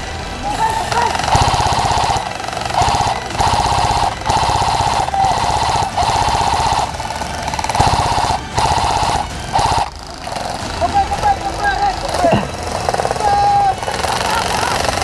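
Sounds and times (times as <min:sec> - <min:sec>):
airsoft rifle firing bursts: 0:00.4 - 0:15.0.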